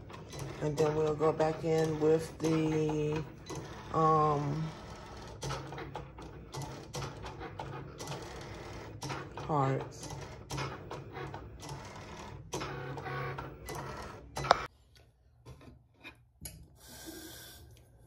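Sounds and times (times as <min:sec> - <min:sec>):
cutting machine motors running: 0:00.0 - 0:14.7.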